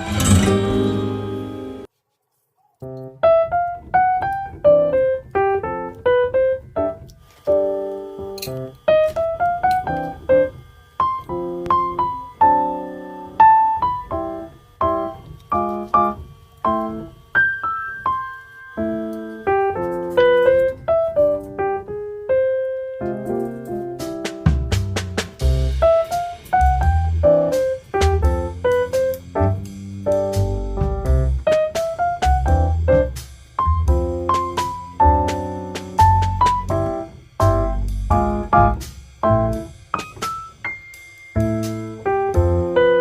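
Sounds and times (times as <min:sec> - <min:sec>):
piano melody: 0:00.0 - 0:01.9, 0:02.8 - 0:43.0.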